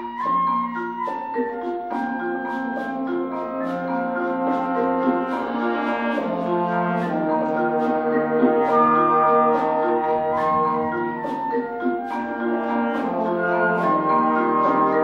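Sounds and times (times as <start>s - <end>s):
mallet percussion notes: 0.0s - 15.0s
concert band brass and wind chords: 2.8s - 15.0s.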